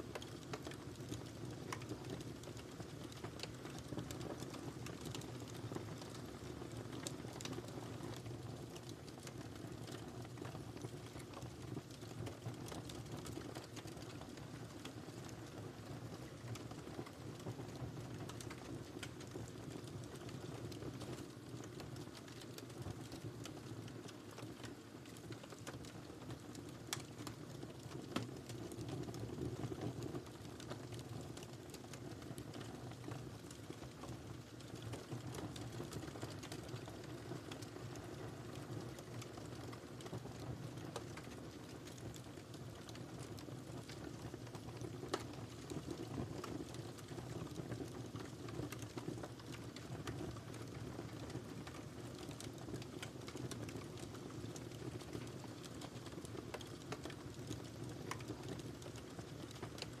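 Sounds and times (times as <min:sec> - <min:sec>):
fire crackling and popping: 0:00.0 - 1:00.0.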